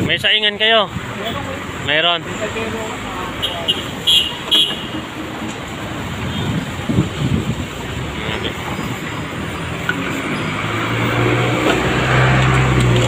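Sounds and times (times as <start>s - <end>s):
street traffic: 0.0s - 13.0s
vehicle engine humming: 0.0s - 13.0s.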